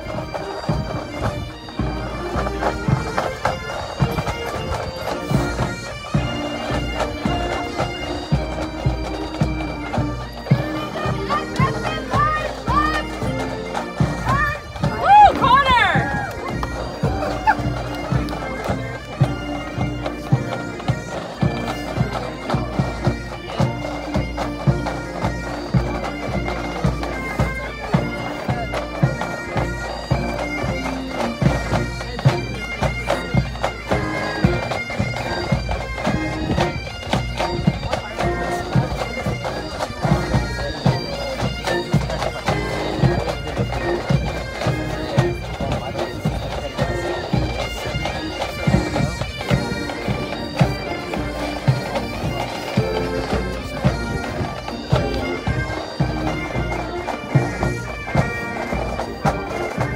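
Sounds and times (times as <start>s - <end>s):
bagpipes playing a march: 0.0s - 59.9s.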